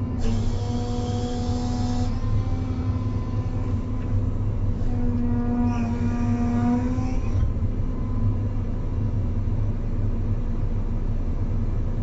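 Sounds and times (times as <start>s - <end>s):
excavator motor and pump rumble: 0.0s - 12.0s.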